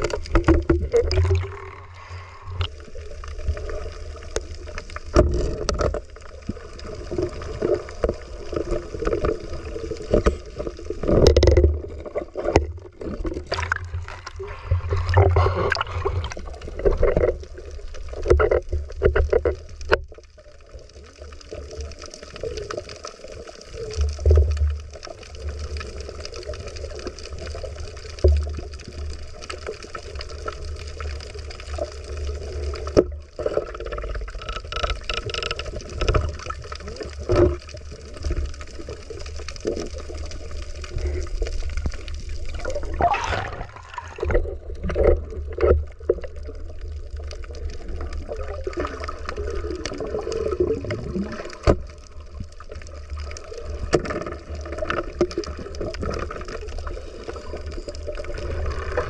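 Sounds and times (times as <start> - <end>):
low underwater rumble: 0.0 - 59.0
water gurgling underwater: 0.0 - 59.0.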